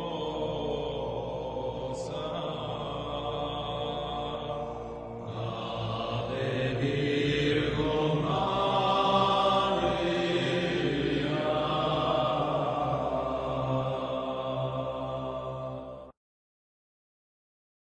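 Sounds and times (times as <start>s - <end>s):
chant-like drone music: 0.0s - 16.2s.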